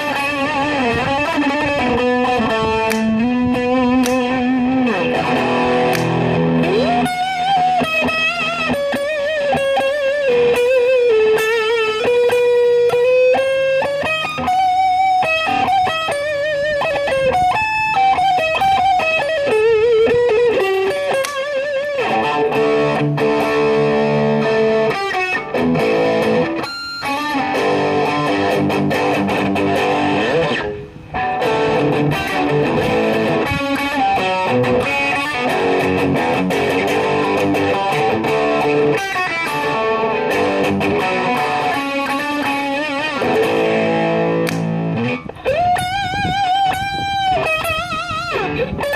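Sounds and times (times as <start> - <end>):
overdriven electric guitar: 0.0 - 48.9.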